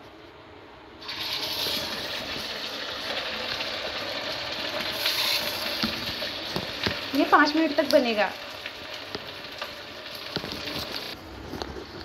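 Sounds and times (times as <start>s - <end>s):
oil sizzling while frying: 1.0s - 11.2s.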